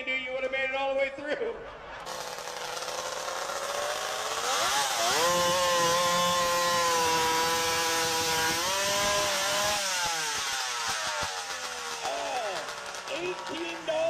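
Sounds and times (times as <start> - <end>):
chainsaw cutting log: 2.0 - 14.0.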